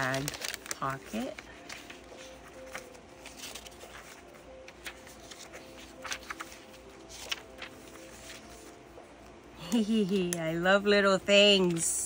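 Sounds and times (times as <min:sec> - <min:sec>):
paper pages rustling: 0:00.0 - 0:09.3, 0:11.4 - 0:12.0.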